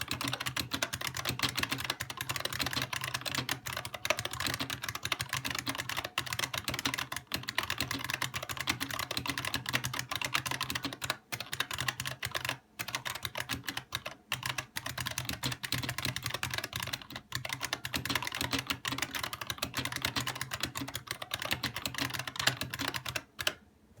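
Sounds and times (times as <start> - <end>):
keyboard keys clicking: 0.0 - 23.6.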